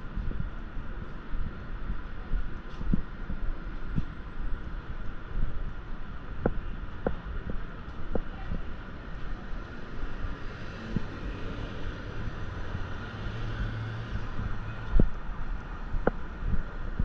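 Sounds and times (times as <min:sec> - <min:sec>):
street traffic noise: 0:00.0 - 0:17.0
vehicle engine humming: 0:00.0 - 0:17.0.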